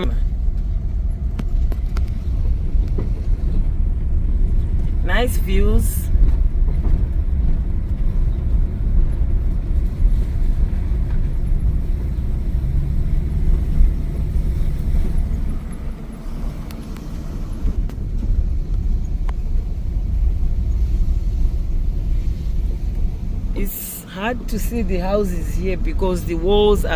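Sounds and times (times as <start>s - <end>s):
car engine and tyres rumbling: 0.0s - 26.9s.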